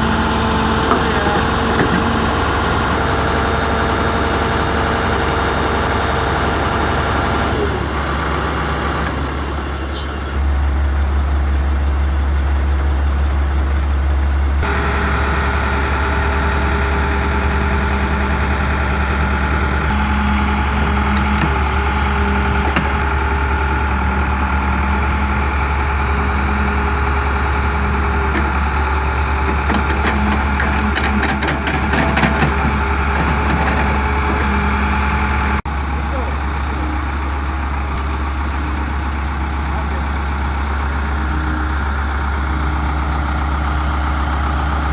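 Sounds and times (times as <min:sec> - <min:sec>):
vehicle engine idling: 0:00.0 - 0:44.9.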